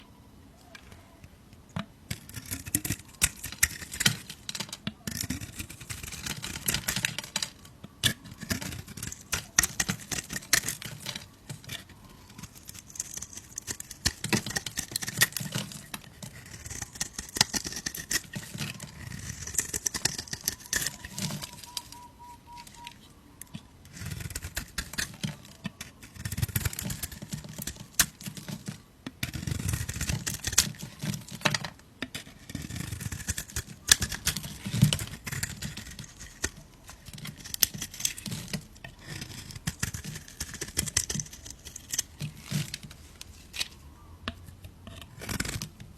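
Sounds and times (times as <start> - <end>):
knife cutting soap crackling: 2.1 - 28.7, 29.3 - 45.9.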